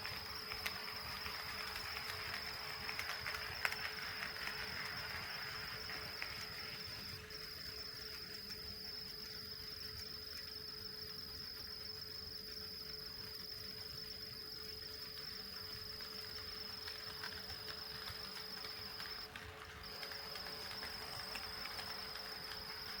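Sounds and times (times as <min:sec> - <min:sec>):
faint ticks: 0:00.0 - 0:23.0
model train high-pitched whine: 0:00.0 - 0:23.0.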